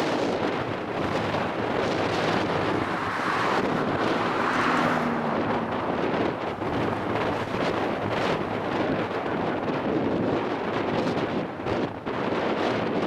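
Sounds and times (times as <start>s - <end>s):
jet engines rumbling: 0.0s - 10.6s
wind buffeting microphone: 0.0s - 13.0s.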